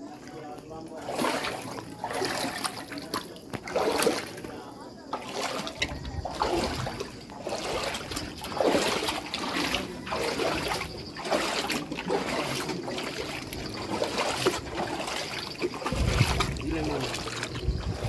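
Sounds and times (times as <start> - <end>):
floodwater sloshing and trickling: 0.0 - 18.0.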